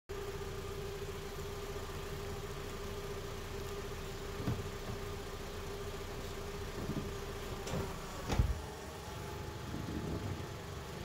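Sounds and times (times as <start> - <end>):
car engine idling: 0.1 - 11.0.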